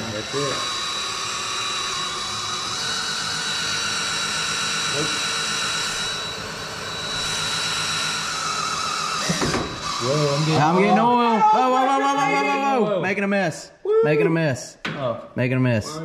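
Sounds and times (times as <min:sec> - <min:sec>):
right-angle drill whining: 0:00.0 - 0:12.8.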